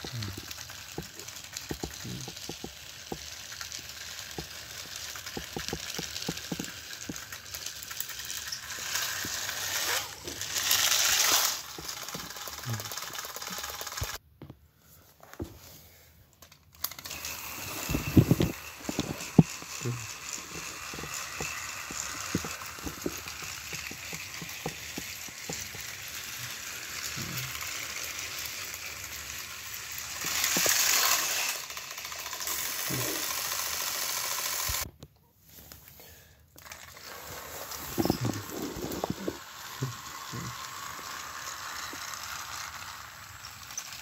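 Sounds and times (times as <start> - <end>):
toy trains whirring on plastic track: 0.0 - 14.2, 15.6 - 34.9, 35.9 - 44.0.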